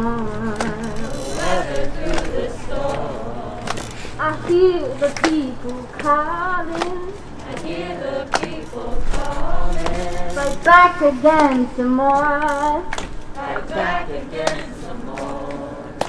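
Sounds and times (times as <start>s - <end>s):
person singing a cappella: 0.0s - 16.0s.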